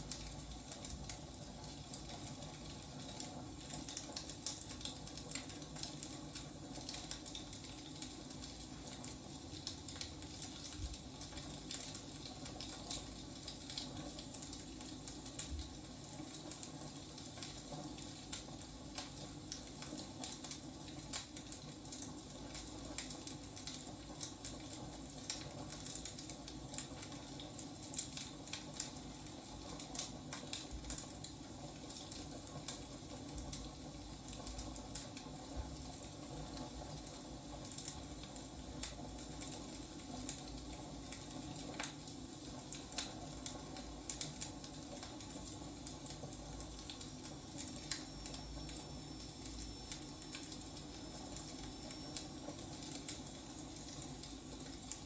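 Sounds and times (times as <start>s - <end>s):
fire low rumble and hiss: 0.0s - 55.0s
firewood crackling and popping: 0.0s - 55.0s.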